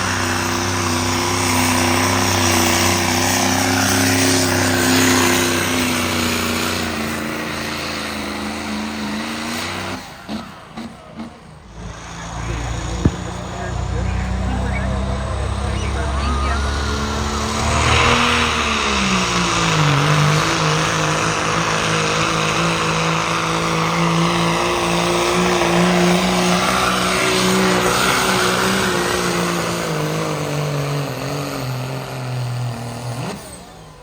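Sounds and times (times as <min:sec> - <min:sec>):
pulling engine running under load: 0:00.0 - 0:34.0.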